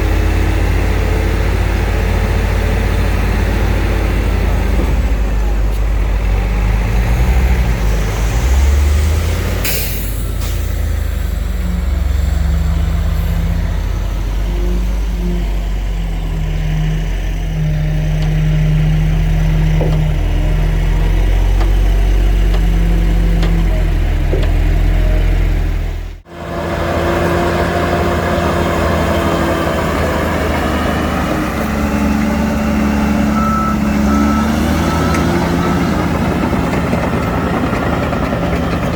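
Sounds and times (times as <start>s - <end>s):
heavy diesel engines under load: 0.0s - 38.9s.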